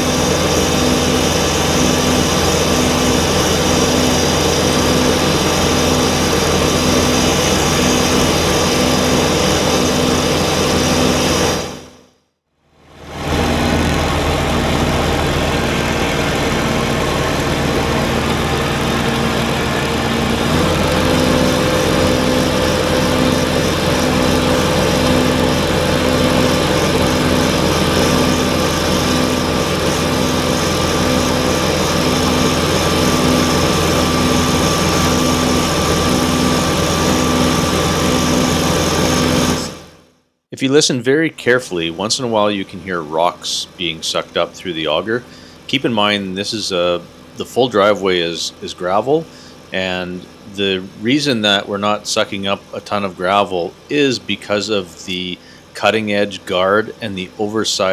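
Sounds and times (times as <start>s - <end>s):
snowblower working: 0.0s - 12.0s, 12.6s - 40.1s, 41.5s - 57.9s
tractor diesel engine under load: 0.0s - 12.0s, 12.8s - 40.0s, 40.8s - 57.9s.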